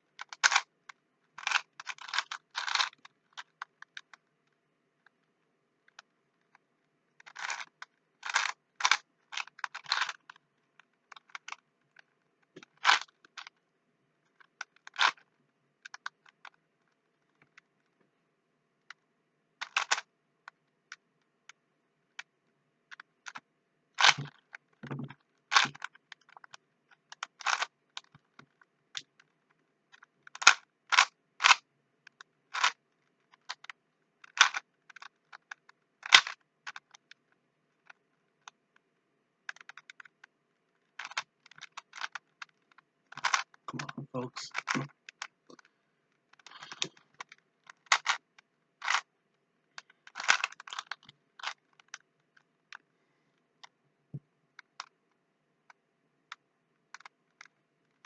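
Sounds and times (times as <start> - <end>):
puzzle cube clicking as twisted: 0.1 - 6.6, 7.2 - 13.6, 14.2 - 17.9, 19.6 - 22.3, 22.9 - 38.8, 39.4 - 45.7, 46.3 - 49.1, 49.7 - 52.8, 54.6 - 55.1, 55.7 - 58.0.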